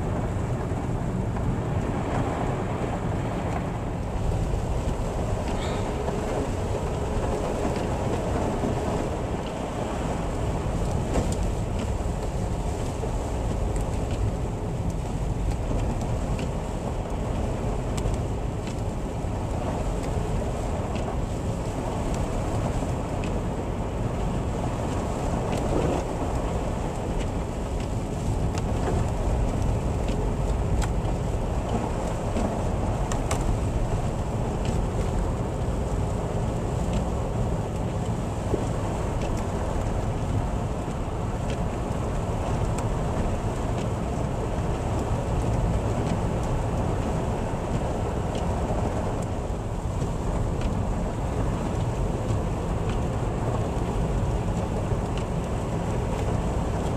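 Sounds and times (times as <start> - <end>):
vehicle and road rumble: 0.0 - 56.9.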